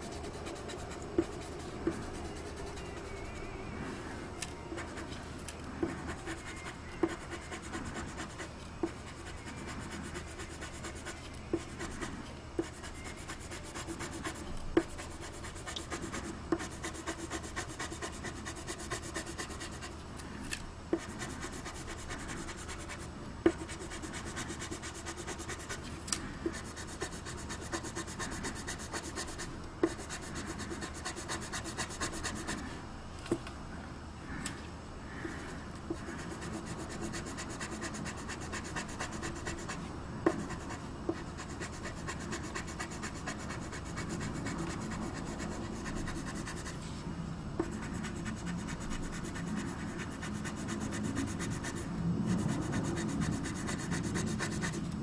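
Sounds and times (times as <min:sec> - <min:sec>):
colored pencil scratching on paper: 0:00.0 - 0:03.4, 0:04.7 - 0:05.2, 0:05.8 - 0:20.0, 0:21.0 - 0:25.8, 0:26.5 - 0:32.7, 0:35.4 - 0:46.8, 0:47.6 - 0:54.9.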